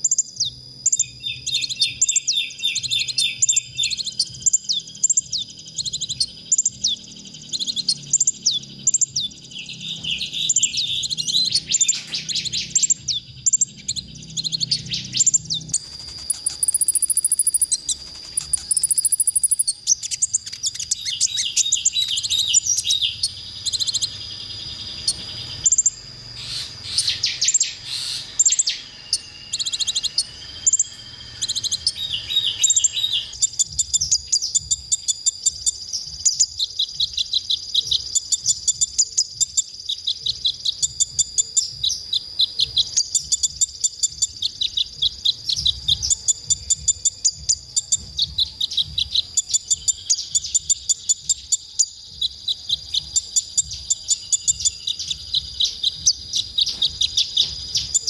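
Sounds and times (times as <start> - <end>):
bird singing high-pitched: 0.0 - 58.0.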